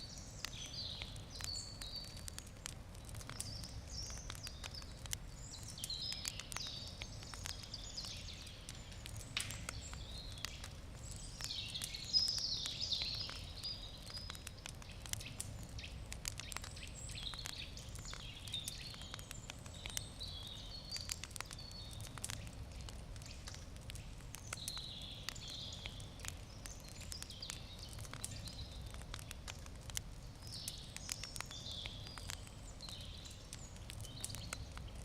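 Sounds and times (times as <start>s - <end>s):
campfire crackling: 0.0s - 35.0s.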